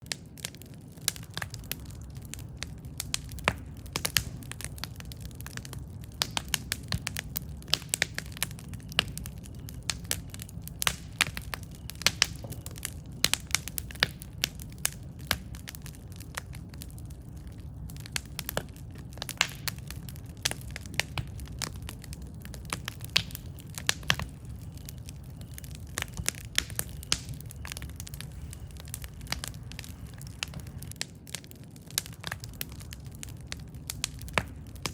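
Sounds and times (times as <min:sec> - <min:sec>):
campfire crackling and popping: 0:00.0 - 0:34.9
low rumble of flames: 0:00.0 - 0:34.9.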